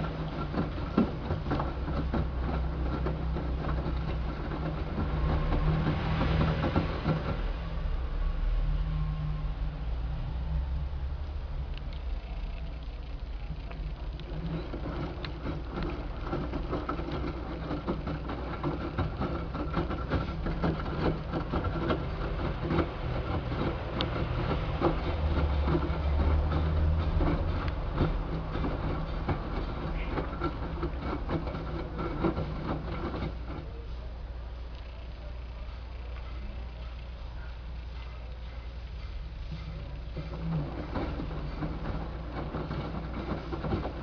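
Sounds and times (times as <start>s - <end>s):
washing machine drum humming: 0.0s - 8.0s, 11.5s - 44.0s.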